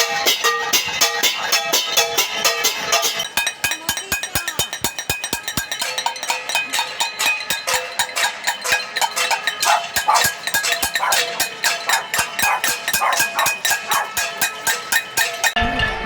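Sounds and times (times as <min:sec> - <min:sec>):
bells ringing: 0:00.0 - 0:16.0
metal objects clanking: 0:00.0 - 0:16.0.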